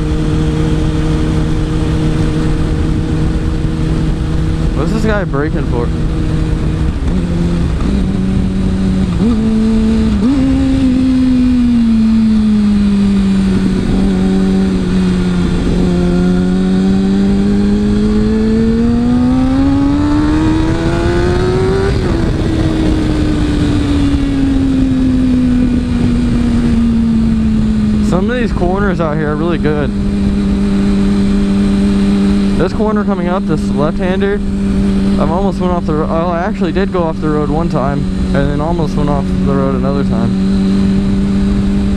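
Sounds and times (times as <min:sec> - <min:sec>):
motorcycle engine revving: 0:00.0 - 0:41.9
wind rush: 0:00.0 - 0:41.9.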